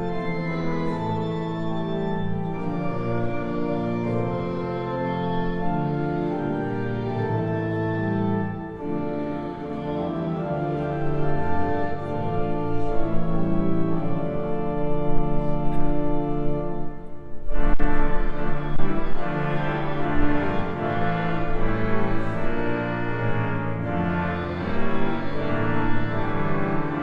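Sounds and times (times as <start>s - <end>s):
organ playing slow chords: 0.0s - 27.0s.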